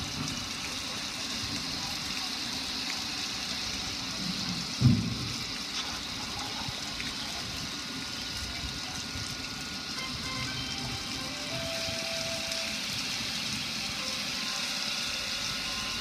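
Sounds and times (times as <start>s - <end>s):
water gushing and splashing: 0.0s - 16.0s.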